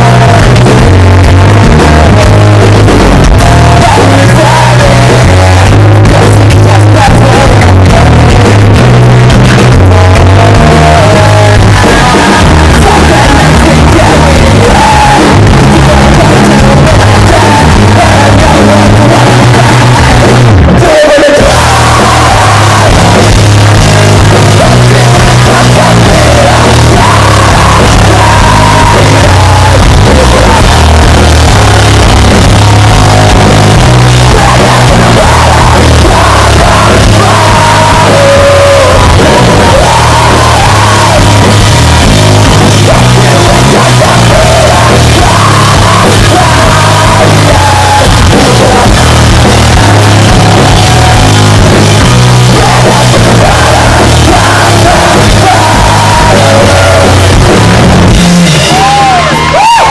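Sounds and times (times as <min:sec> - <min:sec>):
bass: 0:00.0 - 0:59.9
distorted guitar: 0:00.0 - 0:59.9
drum kit: 0:00.0 - 0:59.9
shouted sung vocals: 0:00.0 - 0:59.9.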